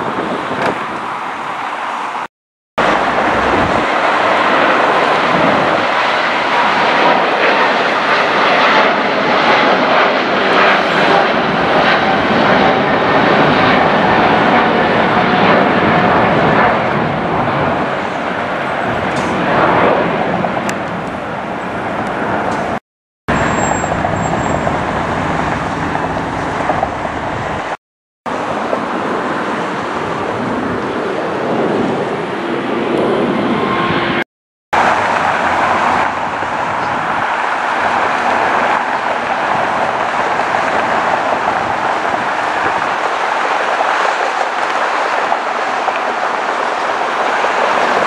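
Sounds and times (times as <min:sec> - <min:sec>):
jet engine rushing: 0:00.0 - 0:34.2, 0:34.8 - 0:48.0.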